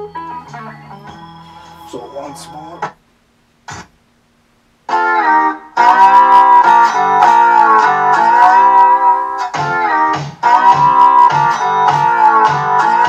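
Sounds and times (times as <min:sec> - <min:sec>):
guitar song through loudspeaker: 0:00.0 - 0:03.0, 0:04.9 - 0:13.0.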